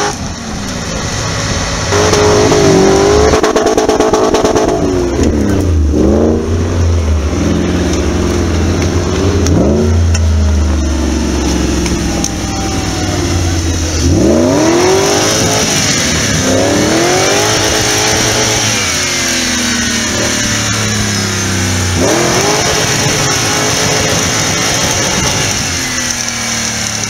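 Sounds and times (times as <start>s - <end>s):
buggy engine revving: 0.0s - 27.0s.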